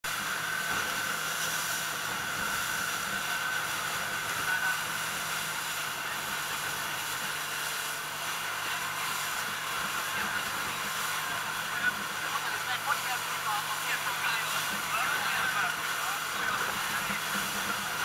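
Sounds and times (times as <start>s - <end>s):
motorboat engine drone: 0.0s - 18.0s
water and wind rushing: 0.0s - 18.0s.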